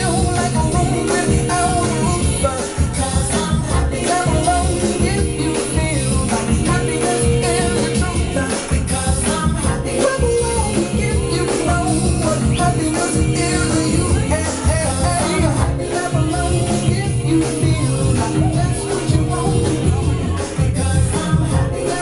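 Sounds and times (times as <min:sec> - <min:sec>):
music with vocals: 0:00.0 - 0:22.0.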